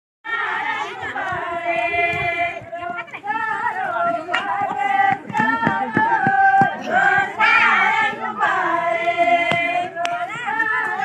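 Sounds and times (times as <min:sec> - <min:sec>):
women singing together: 0:00.3 - 0:11.0.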